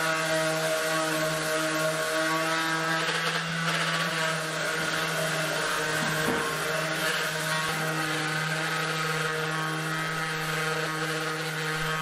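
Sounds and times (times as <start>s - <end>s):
orbital sander sanding wood: 0.0s - 12.0s.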